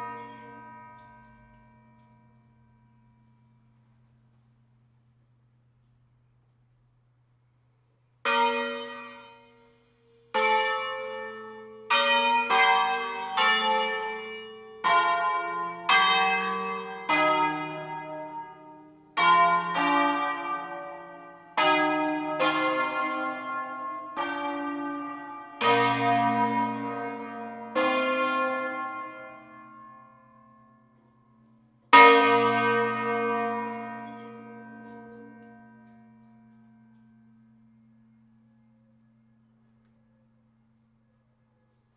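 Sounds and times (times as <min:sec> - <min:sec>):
church bells ringing single strokes: 0:00.0 - 0:04.4, 0:08.2 - 0:41.0.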